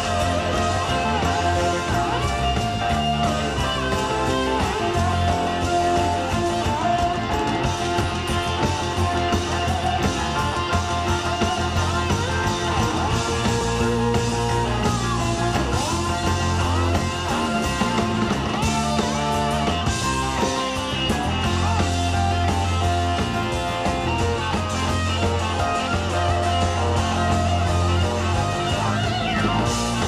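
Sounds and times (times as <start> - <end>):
electric guitar bent notes: 0.0 - 30.0
live rock band playing: 0.0 - 30.0.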